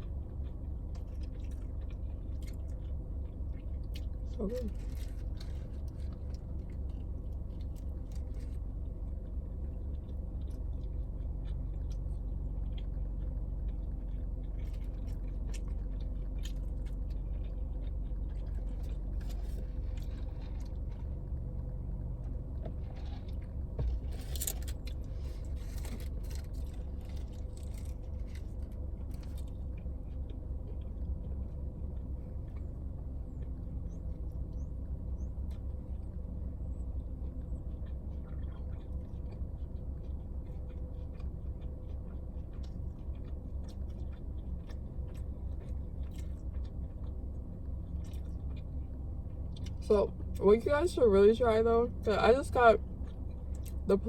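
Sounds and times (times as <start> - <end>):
person chewing food: 0.0 - 50.4, 52.8 - 53.9
steady low hum: 0.0 - 54.0.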